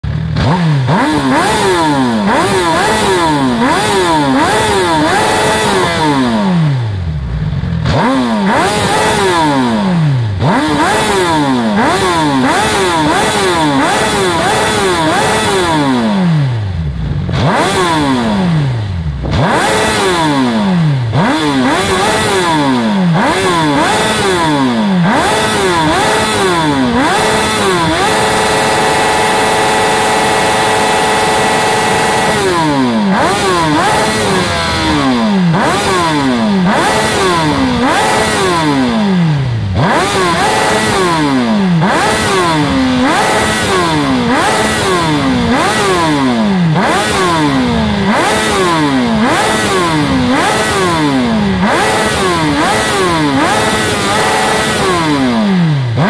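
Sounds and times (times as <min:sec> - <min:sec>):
motorcycle engine idling: 0:00.0 - 0:56.0
motorcycle engine revving: 0:00.0 - 0:56.0.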